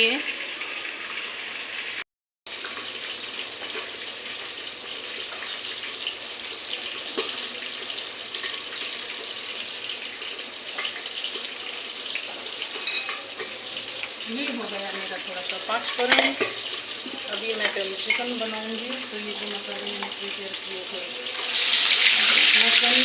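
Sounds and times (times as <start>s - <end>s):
hot oil sizzling with spices: 0.0s - 23.0s.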